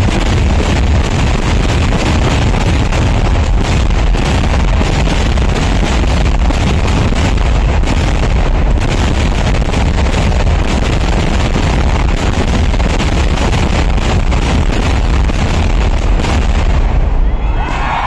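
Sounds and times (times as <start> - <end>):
fireworks blasts rumbling: 0.0 - 18.0.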